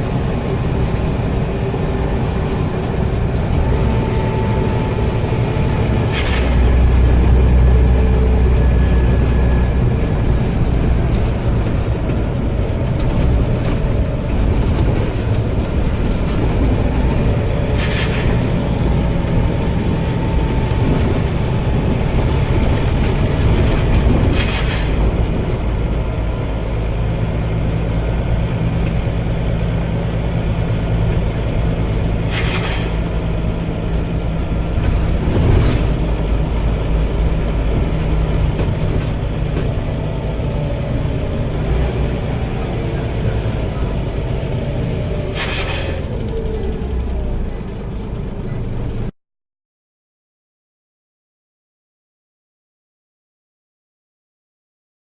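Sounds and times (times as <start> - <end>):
bus running: 0.0 - 49.2.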